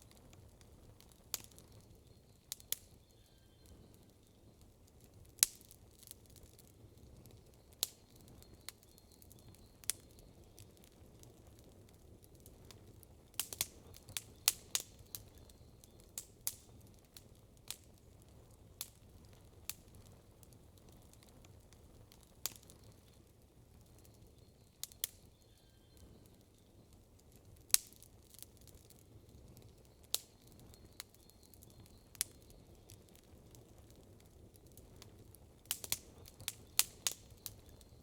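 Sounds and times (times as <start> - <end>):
campfire crackling: 0.0 - 38.0.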